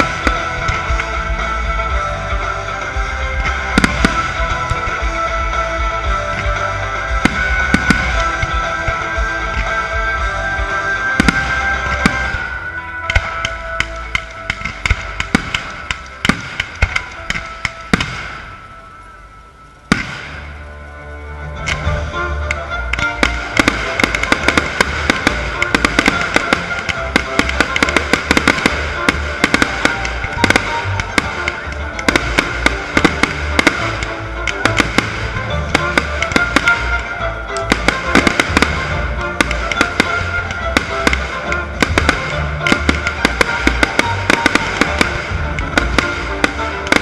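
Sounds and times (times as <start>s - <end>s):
firework bangs and crackles: 0.0s - 47.0s
music with pulsing bass: 0.0s - 47.0s.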